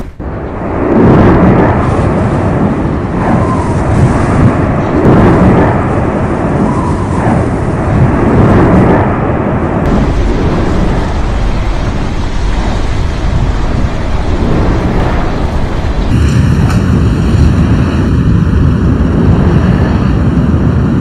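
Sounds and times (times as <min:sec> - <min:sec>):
volcano deep rumble: 0:00.0 - 0:21.0.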